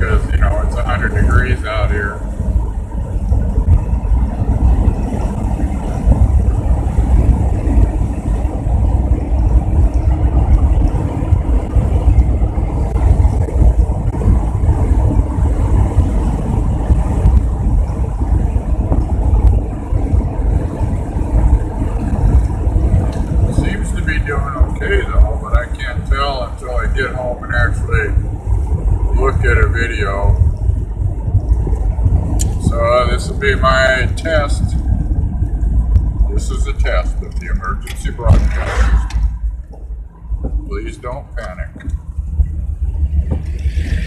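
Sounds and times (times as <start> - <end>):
van driving interior rumble: 0.0 - 44.0.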